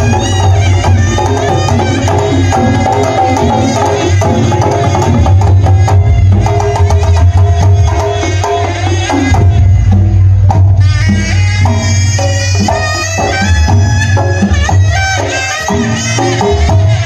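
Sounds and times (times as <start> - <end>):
hand drum patterns: 0.0 - 17.0.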